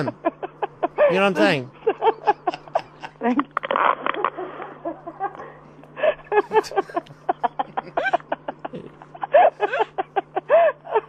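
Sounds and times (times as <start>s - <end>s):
person laughing heartily: 0.0s - 3.4s, 4.1s - 11.0s
steady low hum: 0.0s - 11.0s.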